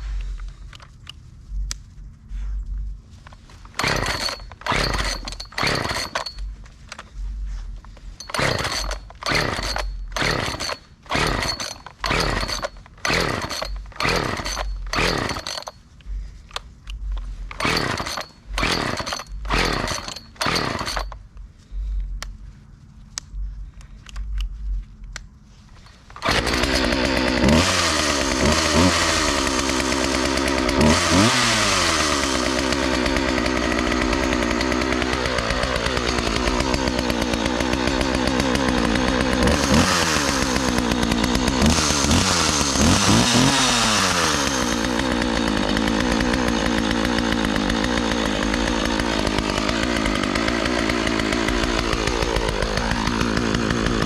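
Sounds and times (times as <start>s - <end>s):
chainsaw revving and idling: 3.3s - 22.0s, 25.8s - 54.0s.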